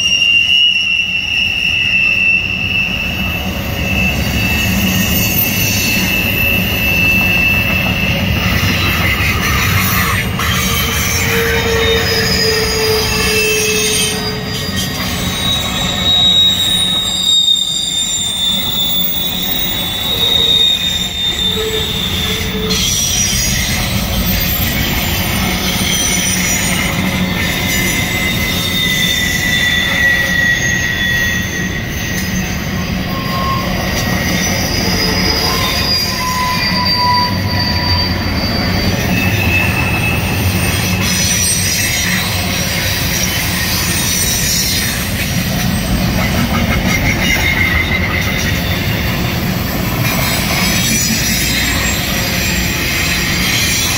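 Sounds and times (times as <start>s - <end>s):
freight train rumbling: 0.0s - 53.9s
steel wheel squeals: 0.0s - 53.9s.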